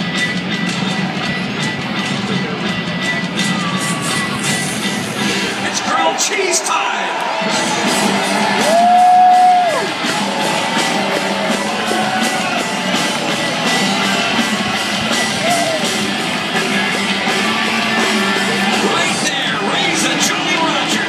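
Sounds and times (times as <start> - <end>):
rock music over loudspeakers: 0.0 - 21.0.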